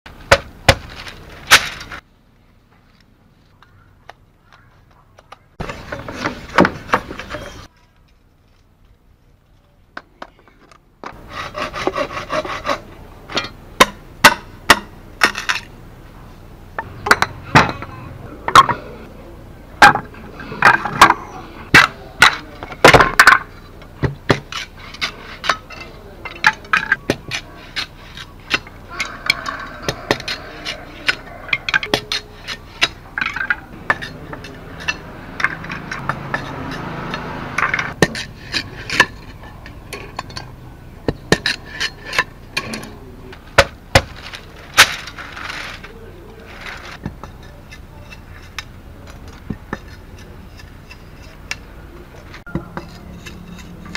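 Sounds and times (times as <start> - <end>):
soft continuous noise: 0.1 - 53.9.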